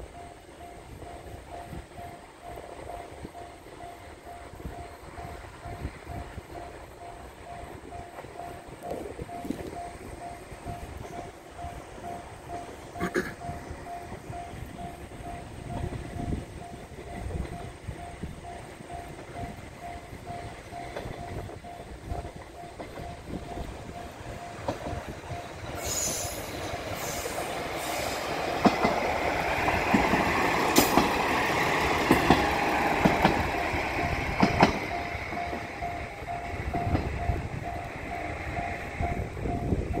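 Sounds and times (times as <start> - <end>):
rail joint clacks: 0.0 - 40.0
train wheel and rail noise: 0.0 - 40.0.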